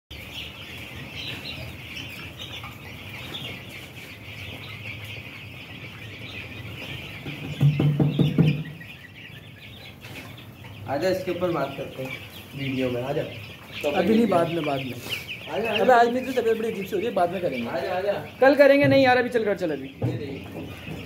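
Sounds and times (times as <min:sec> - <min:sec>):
chicks peeping: 0:00.1 - 0:21.0.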